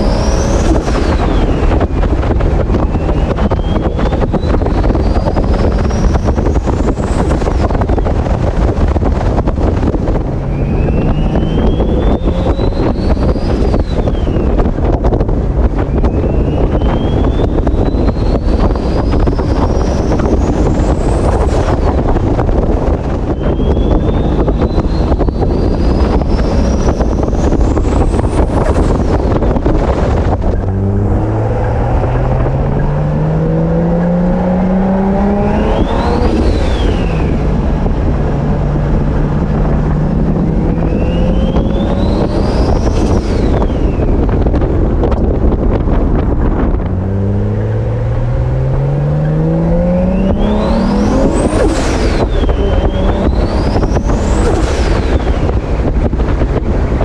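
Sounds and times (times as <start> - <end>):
car engine pulling hard: 0.0 - 57.0
wind noise: 0.0 - 57.0.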